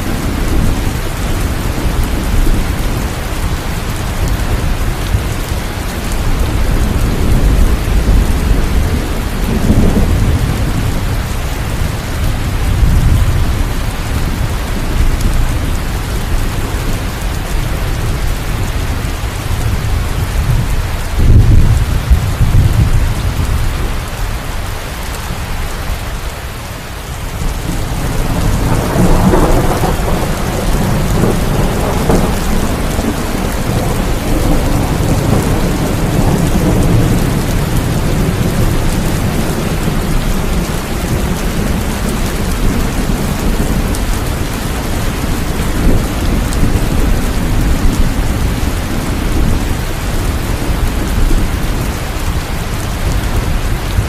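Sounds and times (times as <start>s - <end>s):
rolling thunder: 0.0s - 24.0s, 27.3s - 54.0s
heavy rain: 0.0s - 54.0s.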